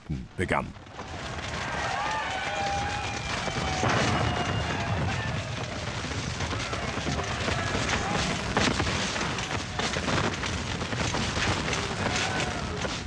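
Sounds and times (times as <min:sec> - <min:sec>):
musket volleys crackling: 0:00.5 - 0:13.0.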